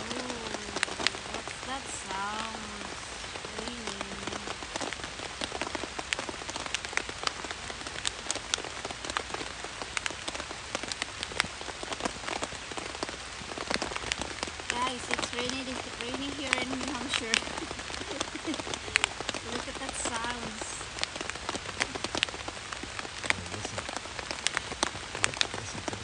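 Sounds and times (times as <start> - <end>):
rain on tent fabric: 0.0 - 26.0
raindrops tapping fabric: 0.0 - 26.0.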